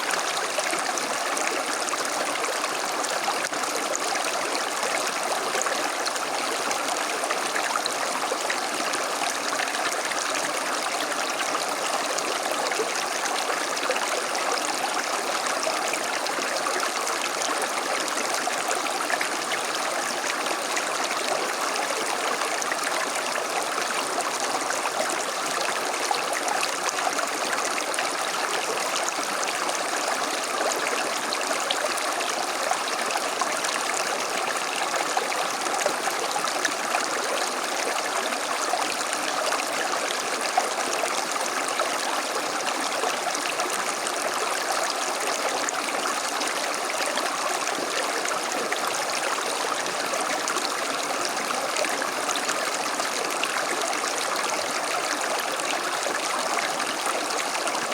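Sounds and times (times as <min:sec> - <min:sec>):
creek babbling over stones: 0:00.0 - 0:57.9.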